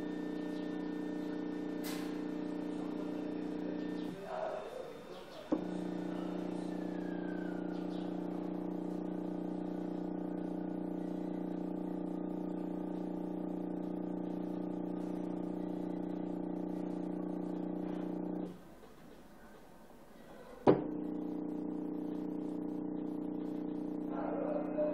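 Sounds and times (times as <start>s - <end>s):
stepper motor humming: 0.0s - 18.6s, 20.7s - 24.9s.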